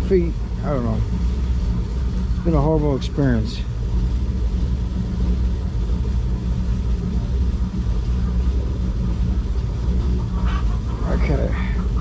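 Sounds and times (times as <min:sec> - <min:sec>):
rock tumbler humming and rumbling: 0:00.0 - 0:12.0.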